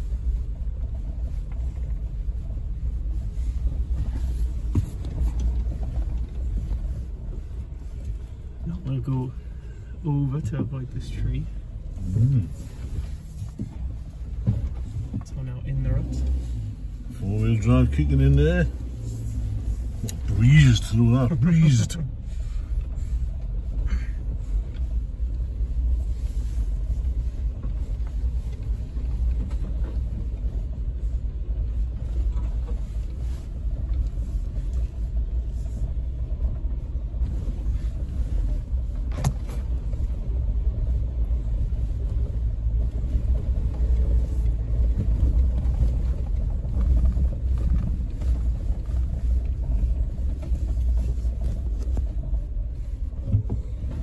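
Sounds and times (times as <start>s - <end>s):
low rumble of engine and tyres: 0.0s - 54.0s.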